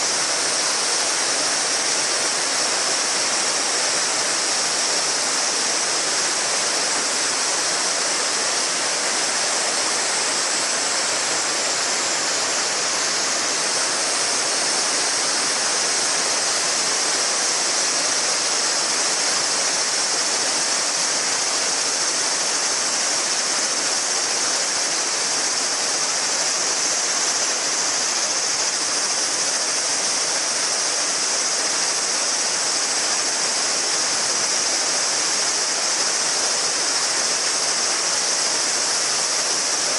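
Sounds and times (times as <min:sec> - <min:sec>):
cicadas shrilling: 0:00.0 - 0:39.9
river murmuring: 0:00.0 - 0:39.9.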